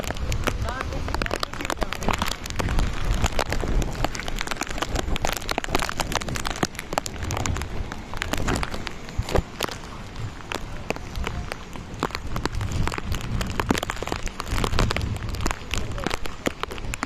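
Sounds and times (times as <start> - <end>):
raindrops tapping near microphone: 0.0 - 17.0
steady rain hiss: 0.0 - 17.0
wind rumbling on microphone: 0.0 - 17.0.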